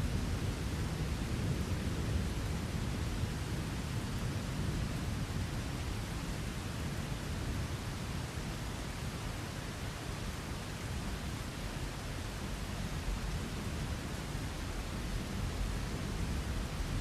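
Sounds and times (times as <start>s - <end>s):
low rumble of thunder: 0.0s - 9.1s, 11.0s - 17.0s
steady rain: 0.0s - 17.0s.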